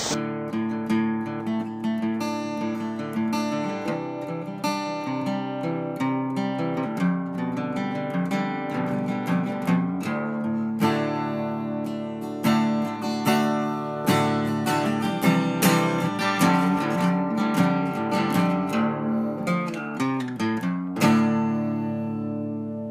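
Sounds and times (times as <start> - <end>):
guitar plucked and strummed: 0.0 - 22.9.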